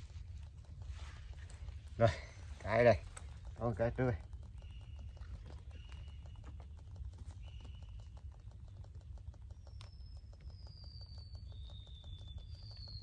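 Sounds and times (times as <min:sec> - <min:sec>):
crackle of tiny clicks: 0:00.0 - 0:13.0.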